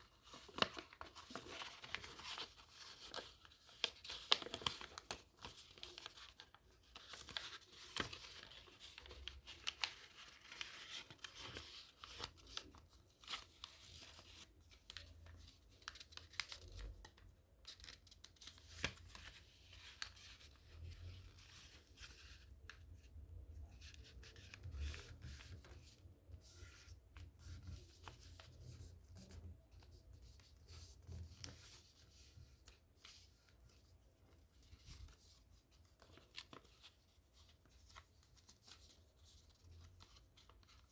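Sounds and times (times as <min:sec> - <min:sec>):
paper rustling and crinkling: 0:00.0 - 0:40.9.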